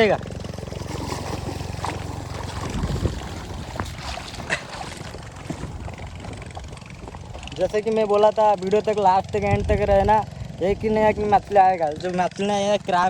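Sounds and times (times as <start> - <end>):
small engine pulsing hum: 0.0 - 13.0.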